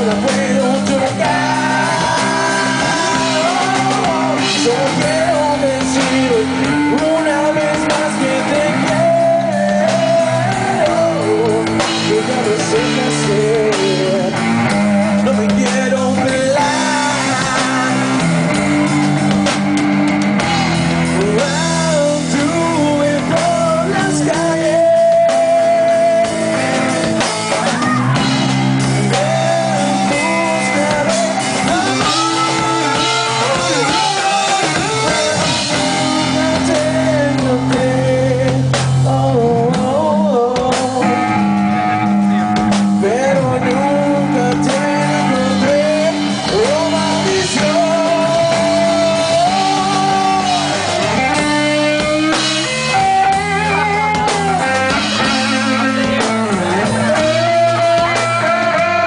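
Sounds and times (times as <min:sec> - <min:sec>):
man singing: 0:00.0 - 0:19.5, 0:20.5 - 0:59.0
drum kit: 0:00.0 - 0:59.0
electric guitars: 0:00.0 - 0:59.0.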